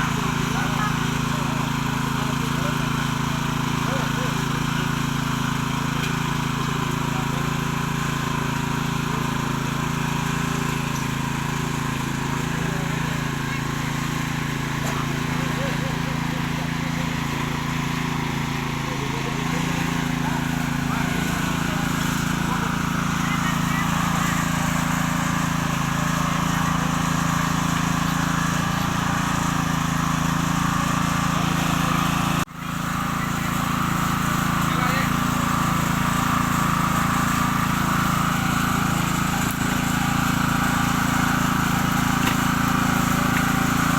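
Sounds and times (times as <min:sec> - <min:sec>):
small engine running steadily: 0:00.0 - 0:43.9.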